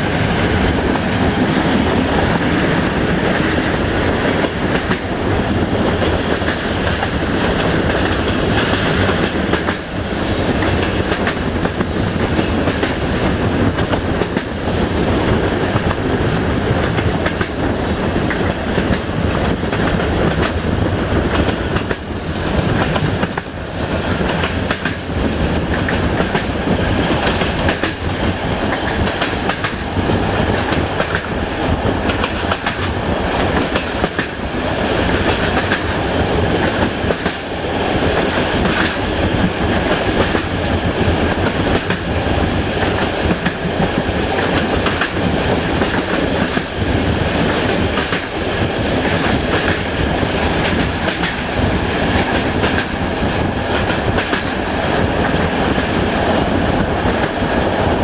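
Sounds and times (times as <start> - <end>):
clickety-clack over rail joints: 0.0 - 58.0
train wheels rumbling: 0.0 - 58.0.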